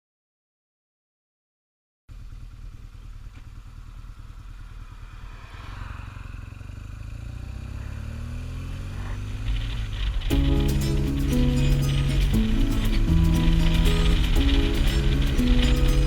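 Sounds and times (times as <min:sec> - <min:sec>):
motorcycle engine accelerating: 0:02.1 - 0:16.0.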